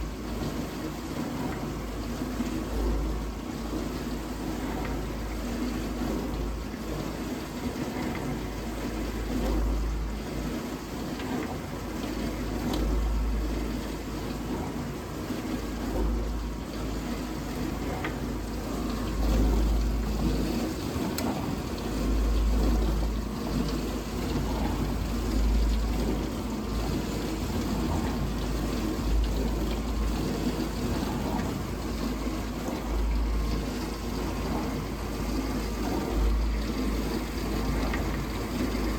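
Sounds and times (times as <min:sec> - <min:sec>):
dishwasher pump motor humming: 0:00.0 - 0:38.9
water swishing in tub: 0:00.0 - 0:38.9.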